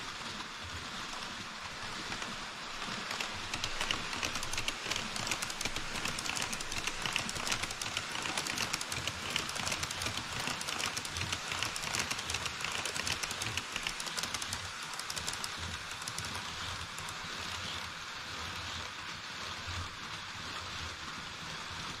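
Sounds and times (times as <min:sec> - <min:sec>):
model train wheels clicking: 0:00.0 - 0:22.0.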